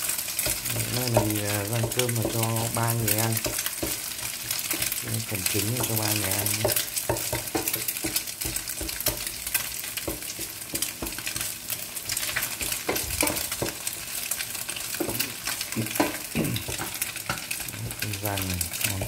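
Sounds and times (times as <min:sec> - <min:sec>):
eggs sizzling in oil: 0:00.0 - 0:19.0
wooden spatula scraping pan: 0:00.4 - 0:17.7.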